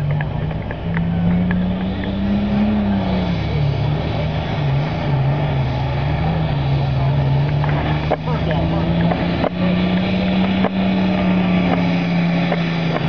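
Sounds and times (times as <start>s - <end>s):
tractor engine revving: 0.0s - 13.0s.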